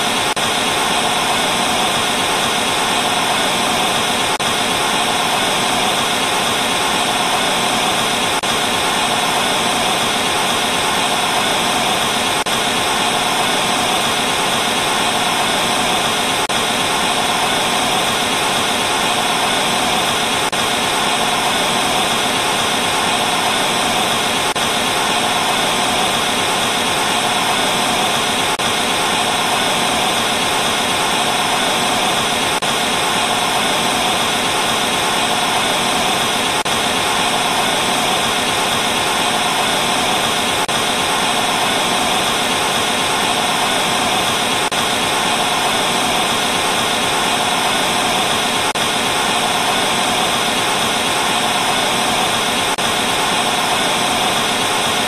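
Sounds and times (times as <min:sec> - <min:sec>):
television static hiss: 0:00.0 - 0:55.0.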